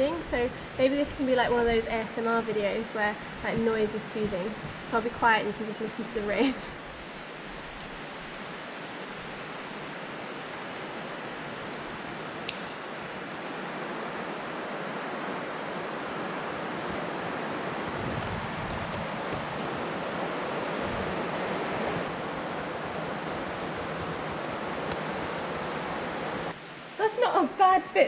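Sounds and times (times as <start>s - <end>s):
rain on a roof: 0.0s - 28.0s.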